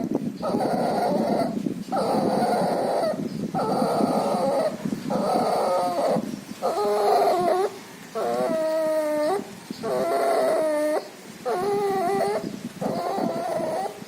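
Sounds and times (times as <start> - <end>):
puppy whimper: 0.4 - 14.0.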